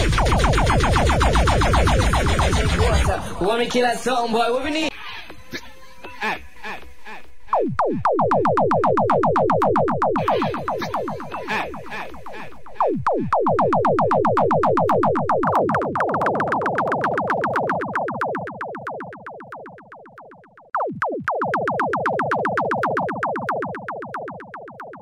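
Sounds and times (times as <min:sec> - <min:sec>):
synthesized bubbling blips: 0:00.0 - 0:03.2, 0:07.5 - 0:25.0.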